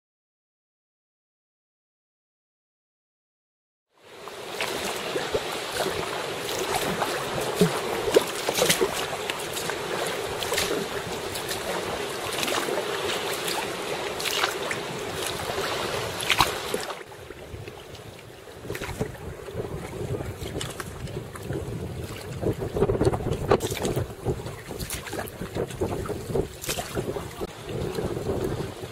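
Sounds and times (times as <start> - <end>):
sea water splashing around rocks: 4.0 - 28.9
water lapping: 4.0 - 28.9.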